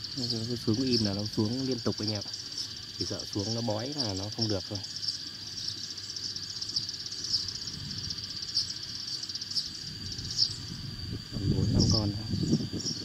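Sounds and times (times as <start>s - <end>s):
sparrow flock chirping over loudspeaker: 0.0s - 13.0s.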